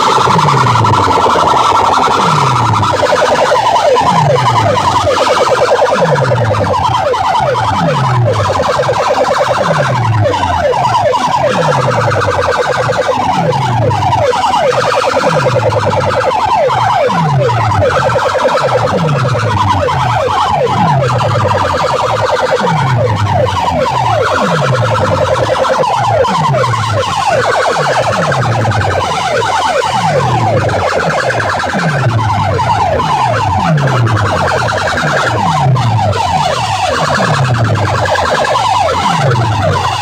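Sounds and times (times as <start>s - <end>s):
sound system siren-like effect: 0.0s - 40.0s.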